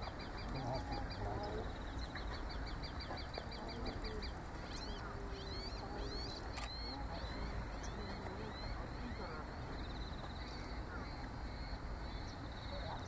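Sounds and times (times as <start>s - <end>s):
outdoor background noise: 0.0s - 13.0s
small birds calling: 0.0s - 13.0s.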